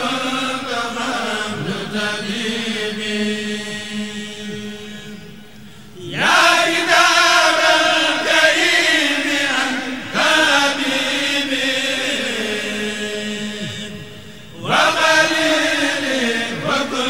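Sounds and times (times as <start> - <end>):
devotional chanting: 0.0 - 17.0.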